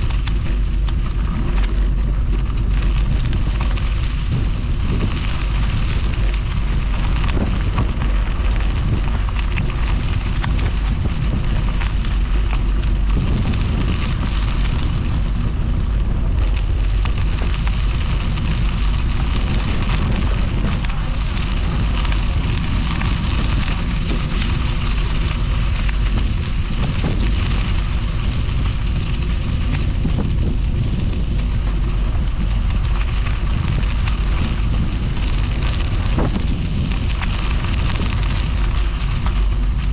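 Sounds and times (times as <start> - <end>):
bicycle tyres on crushed stone: 0.0 - 39.9
wind buffeting microphone: 0.0 - 39.9.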